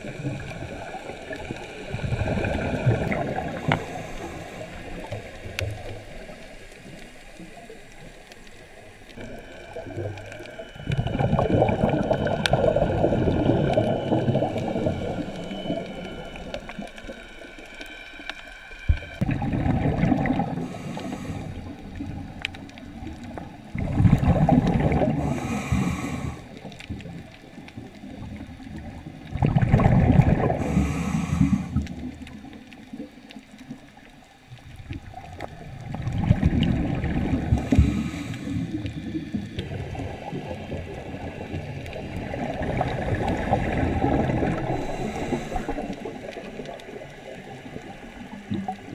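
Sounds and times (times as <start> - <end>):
air bubbles underwater: 0.0 - 17.9, 18.8 - 48.9.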